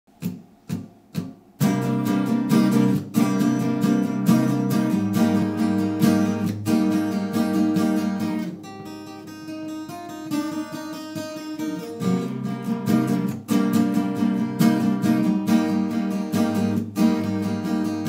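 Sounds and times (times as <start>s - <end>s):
acoustic guitars playing: 0.1s - 18.0s.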